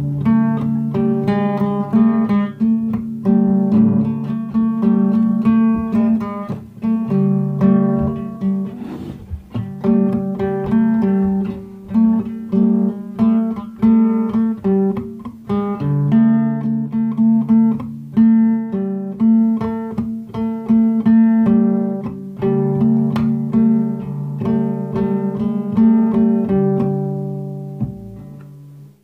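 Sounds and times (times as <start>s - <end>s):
fingerpicked acoustic guitar: 0.0s - 29.0s.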